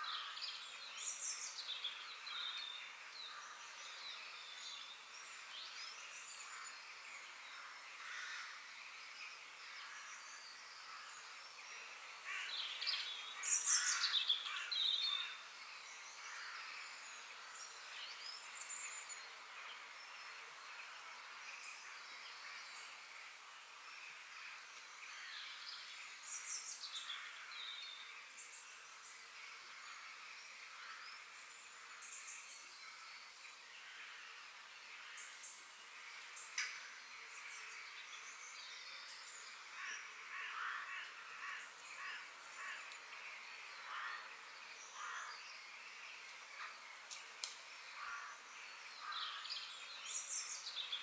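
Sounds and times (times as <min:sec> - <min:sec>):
birds calling and chirping: 0:00.0 - 0:51.0
faint steady hiss: 0:00.0 - 0:51.0.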